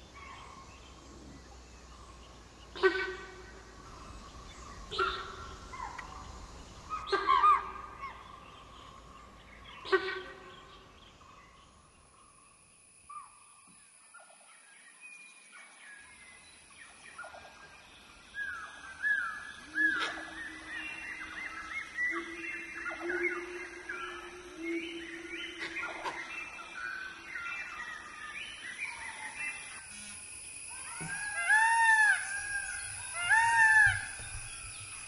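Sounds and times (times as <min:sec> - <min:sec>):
high insect whine: 0:00.0 - 0:35.0.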